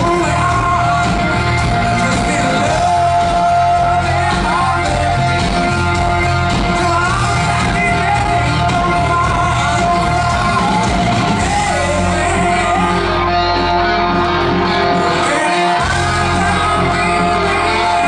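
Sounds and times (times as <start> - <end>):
bass: 0.0 - 18.0
drums: 0.0 - 18.0
electric guitars: 0.0 - 18.0
keyboard: 0.0 - 18.0
person singing: 0.0 - 18.0.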